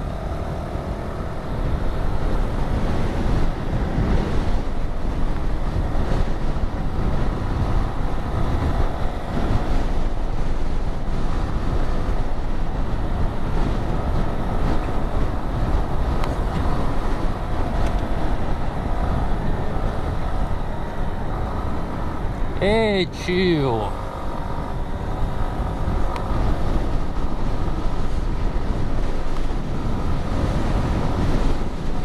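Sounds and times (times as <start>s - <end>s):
scooter engine running: 0.0s - 22.6s, 23.9s - 30.3s
wind on microphone: 0.0s - 23.1s, 23.7s - 32.0s.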